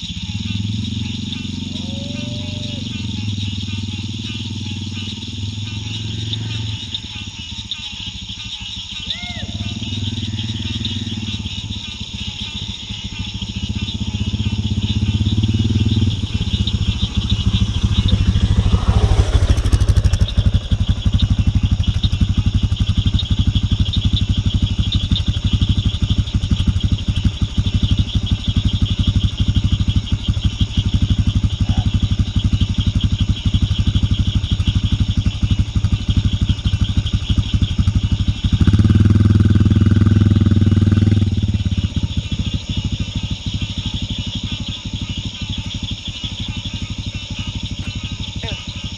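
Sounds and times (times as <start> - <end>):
loud steady drone: 0.0 - 48.9
motorcycle engine running: 0.0 - 48.9.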